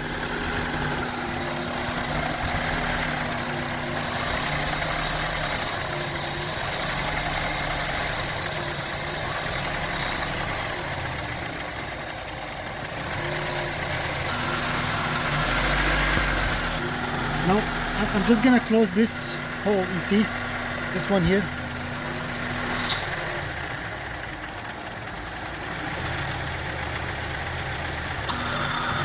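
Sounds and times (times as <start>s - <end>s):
car engine idling roughly: 0.0s - 29.0s.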